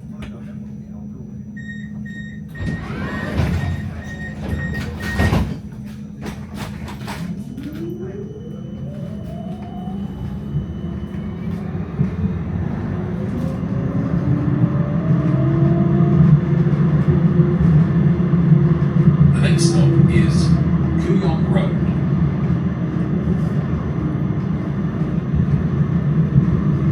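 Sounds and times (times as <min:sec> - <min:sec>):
traction motor whine: 0:02.0 - 0:26.9
wheels rumbling on rails: 0:02.4 - 0:26.9.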